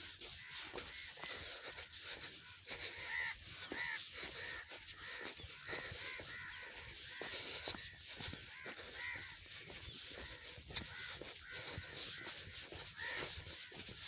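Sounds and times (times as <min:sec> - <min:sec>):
crows cawing: 0:00.0 - 0:14.0.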